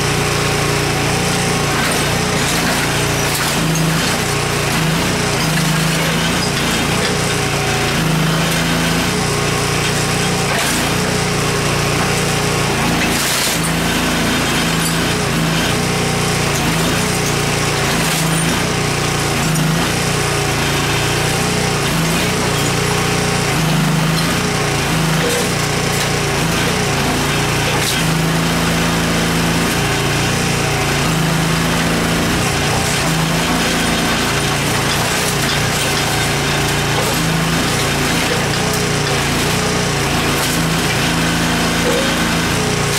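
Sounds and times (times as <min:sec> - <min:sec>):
small backhoe engine running: 0:00.0 - 0:42.9.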